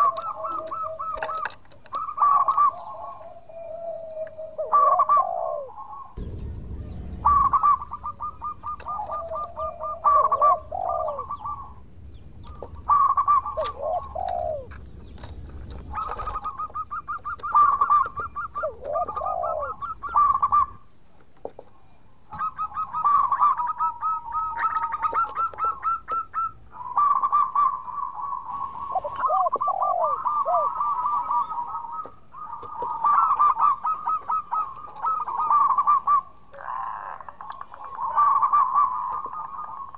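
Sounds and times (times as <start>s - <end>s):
dove cooing in trilling notes: 0.0s - 20.9s, 21.5s - 39.9s.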